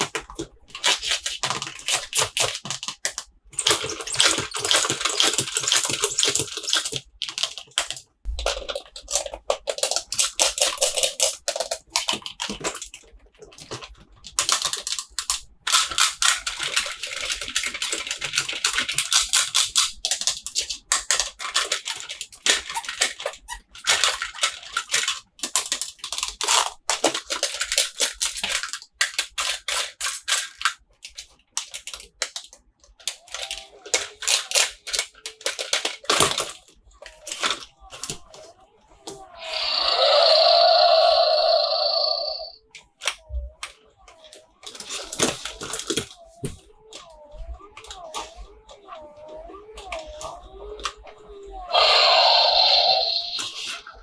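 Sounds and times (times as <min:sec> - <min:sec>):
plastic packaging crinkling: 0:00.0 - 0:48.2, 0:51.7 - 0:54.0
sharp plastic clicks: 0:00.0 - 0:54.0.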